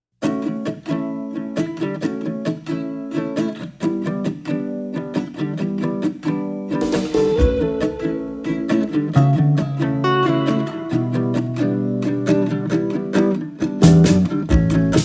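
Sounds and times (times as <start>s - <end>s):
strummed acoustic guitar chords: 0.3s - 15.0s.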